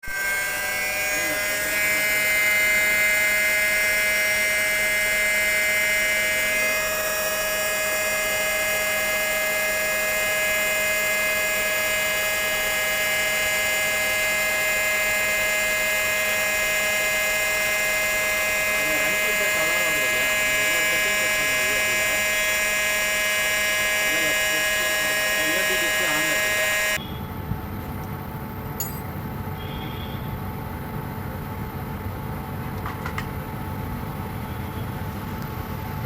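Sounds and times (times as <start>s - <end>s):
pump motor whining: 0.0s - 29.0s.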